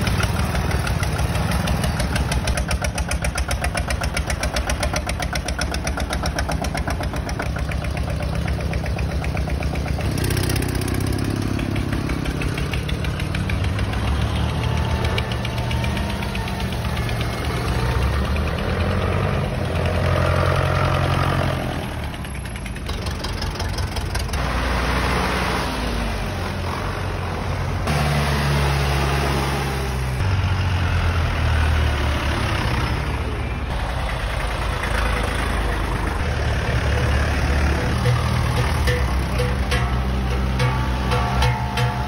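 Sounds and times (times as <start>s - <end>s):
tractor engines passing: 0.0s - 42.0s.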